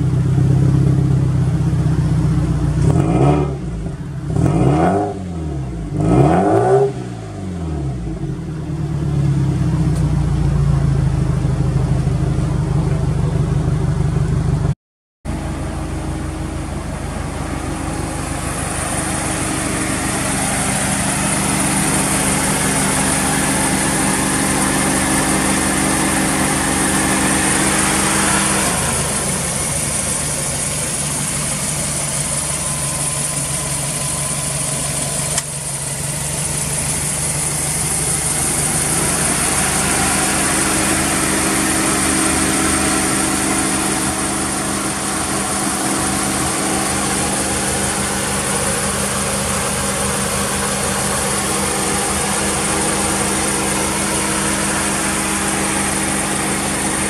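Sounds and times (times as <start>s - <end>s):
car engine idling: 0.0s - 4.7s, 7.0s - 57.0s.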